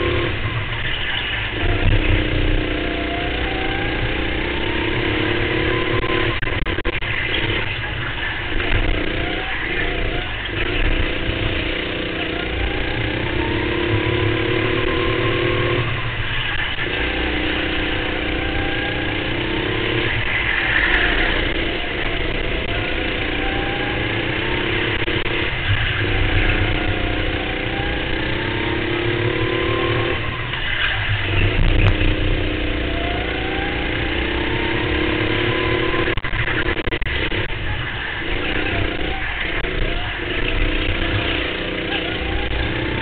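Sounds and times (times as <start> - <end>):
go-kart engine revving: 0.0 - 43.0.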